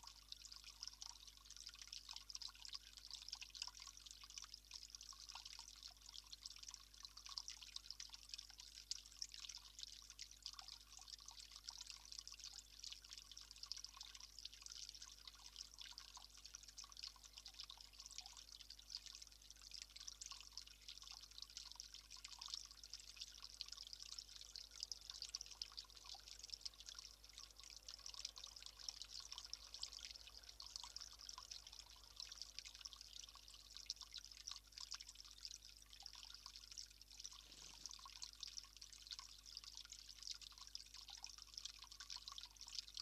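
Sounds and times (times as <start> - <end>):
water trickling into stone basin: 0.0 - 43.0.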